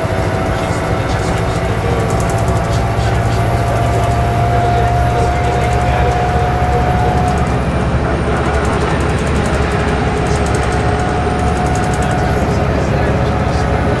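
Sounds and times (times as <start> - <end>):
diesel bus engine running: 0.0 - 14.0
road and tyre rumble: 0.0 - 14.0
steady whine: 0.0 - 14.0.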